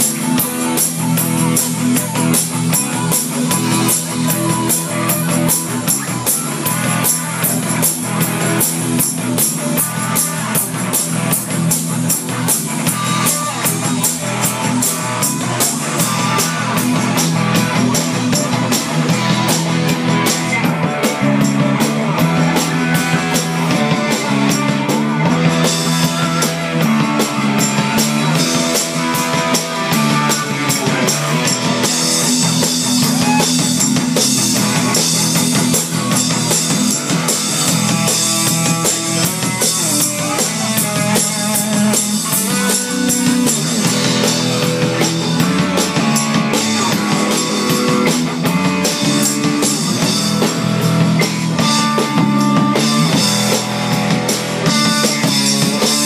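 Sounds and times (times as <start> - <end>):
bass line: 0.0 - 56.0
drum kit: 0.0 - 56.0
guitar: 0.0 - 56.0.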